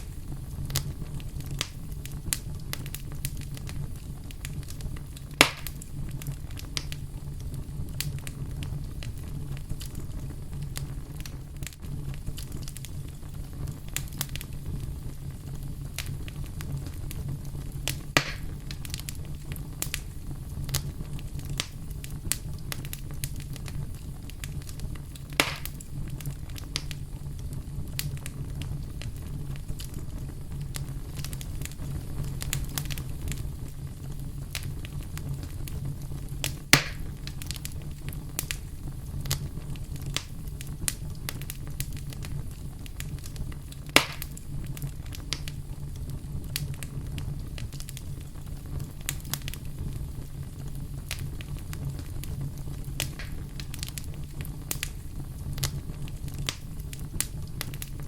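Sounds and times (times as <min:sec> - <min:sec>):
campfire crackles: 0:00.0 - 0:58.0
campfire flames rumbling: 0:00.0 - 0:58.0
sharp pops from fire: 0:00.0 - 0:58.0.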